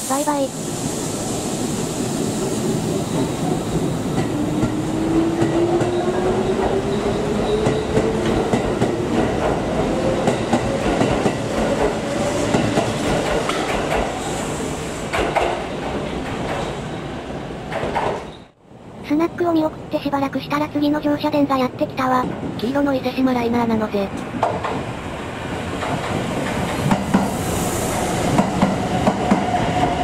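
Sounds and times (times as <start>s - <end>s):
rumble of train cars: 0.0s - 30.0s.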